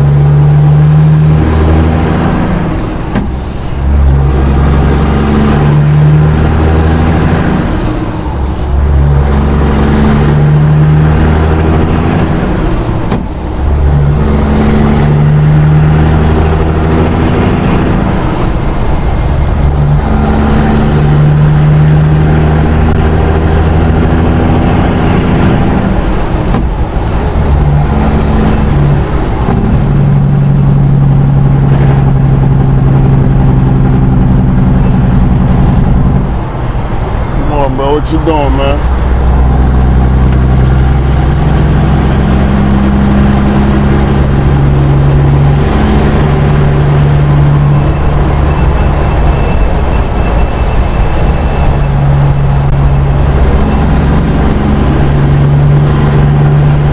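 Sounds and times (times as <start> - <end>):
truck engine accelerating: 0.0 - 56.9.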